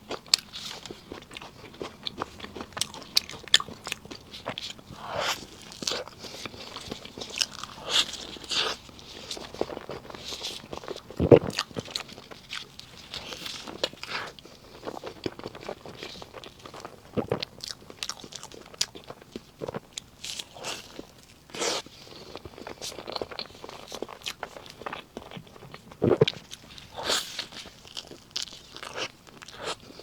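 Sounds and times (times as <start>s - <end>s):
person chewing cake: 0.0s - 30.0s.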